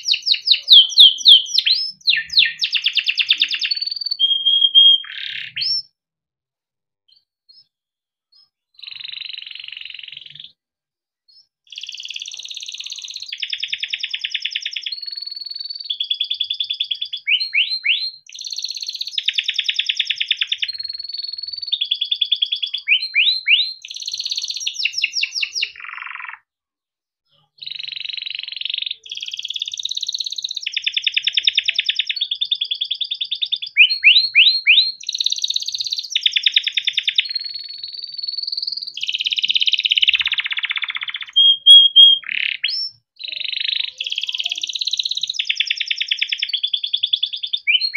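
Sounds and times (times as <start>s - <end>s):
canary singing trills: 0.0s - 5.9s, 8.3s - 10.6s, 11.3s - 26.5s, 27.3s - 47.9s.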